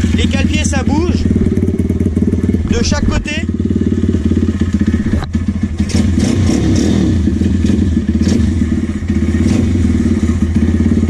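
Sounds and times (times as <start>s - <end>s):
motorbike engine idling: 0.0s - 6.3s, 7.1s - 11.0s.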